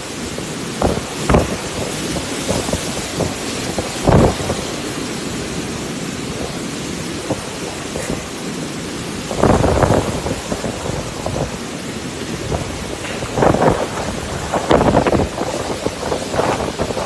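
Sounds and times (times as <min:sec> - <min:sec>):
rain: 0:00.0 - 0:17.0
storm wind: 0:00.0 - 0:17.0.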